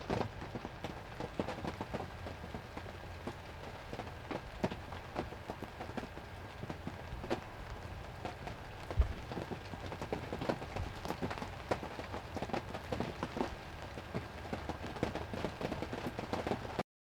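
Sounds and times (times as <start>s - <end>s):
rain hiss: 0.0s - 16.8s
raindrops tapping: 0.0s - 16.8s.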